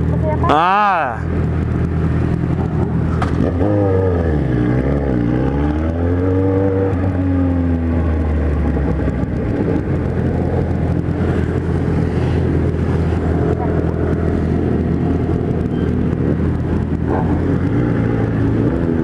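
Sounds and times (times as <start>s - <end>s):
motorcycle engine revving: 0.0s - 19.0s
wind: 0.0s - 19.0s.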